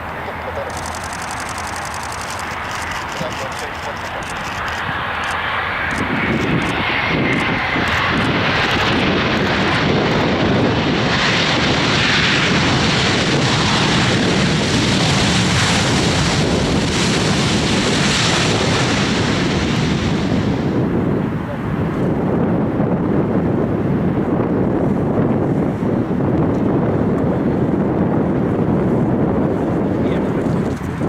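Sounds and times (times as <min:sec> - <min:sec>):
airliner engines: 0:00.0 - 0:31.0.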